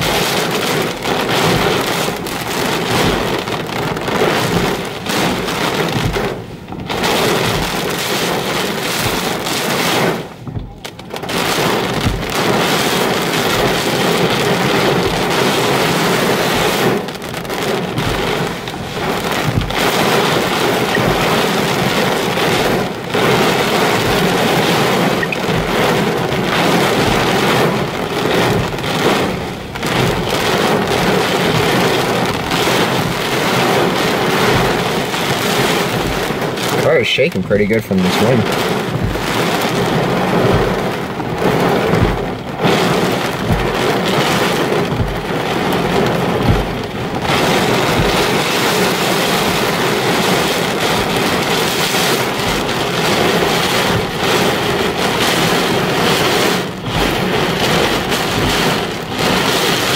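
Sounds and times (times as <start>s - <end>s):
heavy rain on car windshield: 0.0s - 59.9s
wind gusts buffeting car: 0.0s - 59.9s.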